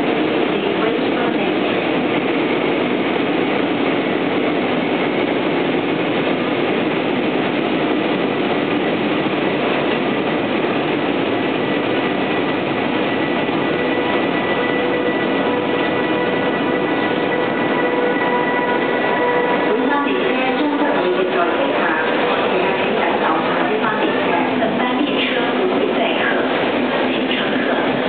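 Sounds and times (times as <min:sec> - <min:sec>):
passenger train passing: 0:00.0 - 0:28.0.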